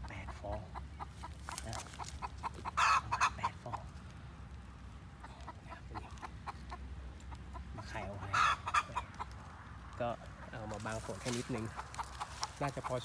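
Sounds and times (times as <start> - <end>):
hen clucking: 0.0 - 4.2, 5.0 - 13.0.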